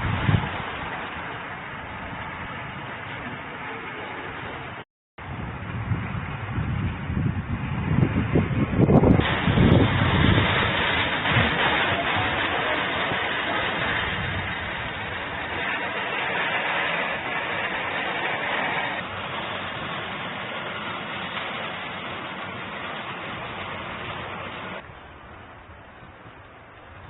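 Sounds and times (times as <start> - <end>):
heavy rain falling: 0.0 - 26.1.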